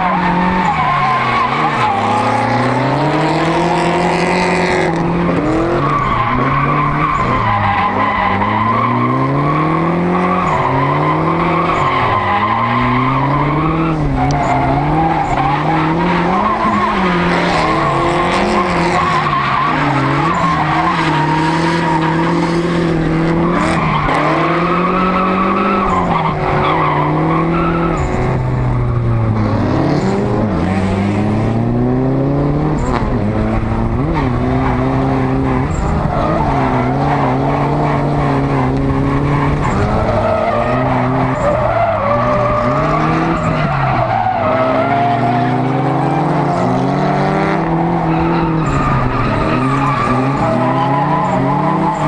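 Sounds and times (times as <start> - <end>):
car engine revving: 0.0 - 52.0
tyres skidding: 0.0 - 52.0.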